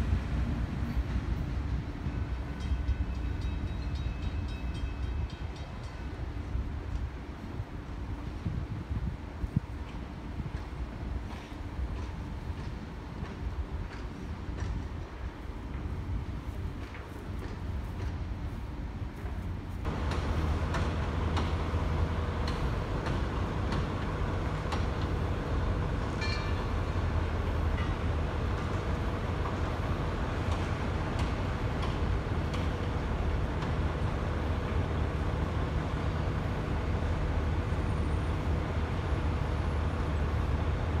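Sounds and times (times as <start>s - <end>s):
low mechanical rumble and hum: 6.4s - 41.0s.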